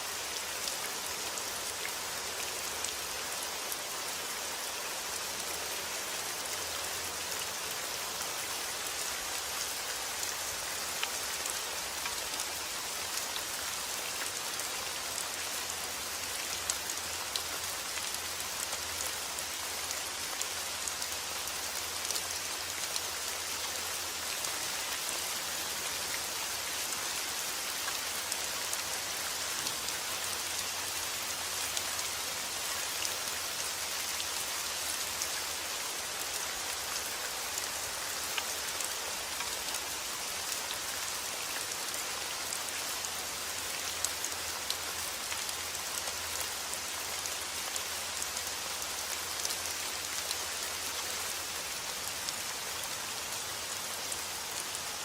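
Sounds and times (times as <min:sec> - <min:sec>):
steady rain on a surface: 0:00.0 - 0:55.0.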